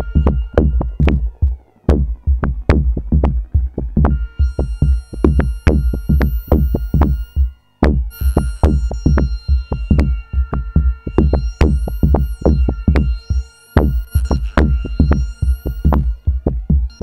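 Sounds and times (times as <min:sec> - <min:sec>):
electronic dance music: 0:00.0 - 0:17.0
high synth notes: 0:00.0 - 0:17.0.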